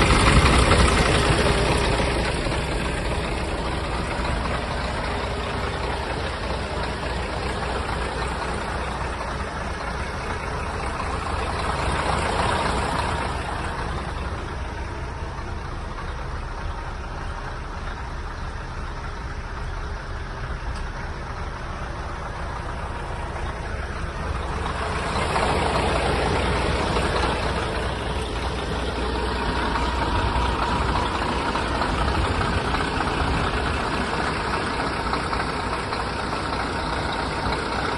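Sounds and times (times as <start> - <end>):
diesel truck engine rumbling: 0.0 - 37.9.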